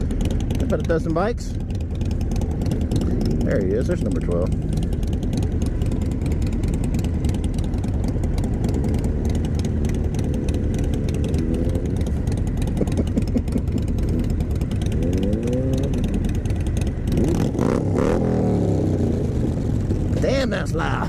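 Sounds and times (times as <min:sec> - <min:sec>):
motorcycle accelerating: 0:00.0 - 0:21.0
motorcycle engines running: 0:00.0 - 0:21.0.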